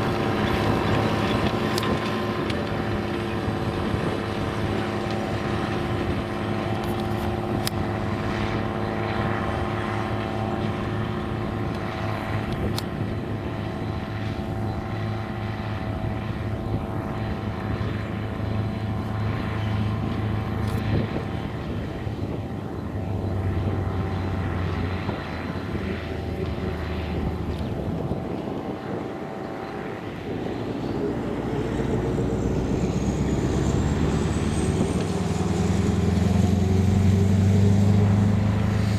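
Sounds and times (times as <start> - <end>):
thin rising whine: 0.0 - 38.9
tractor diesel engine under load: 0.0 - 38.9.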